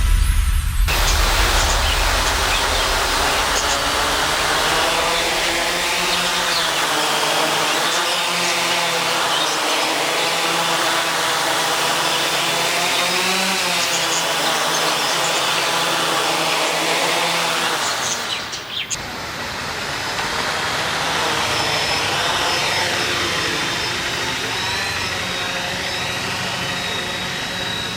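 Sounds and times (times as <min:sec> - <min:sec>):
drone propellers whirring: 0:00.0 - 0:27.9.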